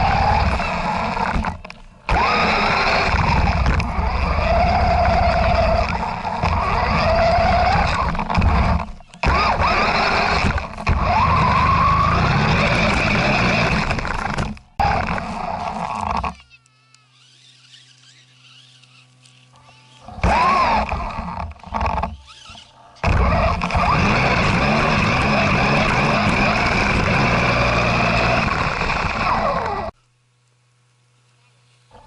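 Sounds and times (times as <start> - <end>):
tyres churning through snow: 0.0 - 16.4, 17.2 - 30.0
toy truck motor running: 0.0 - 30.0.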